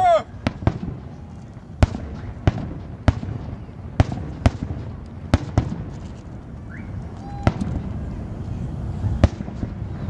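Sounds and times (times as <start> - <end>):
firework bangs: 0.0 - 10.0
low rumble of firework bursts: 0.0 - 10.0.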